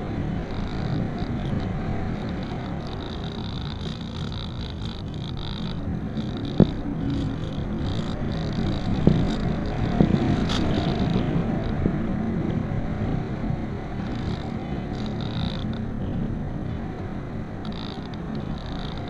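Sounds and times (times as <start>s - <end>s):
airflow rushing over camera: 0.0s - 19.0s.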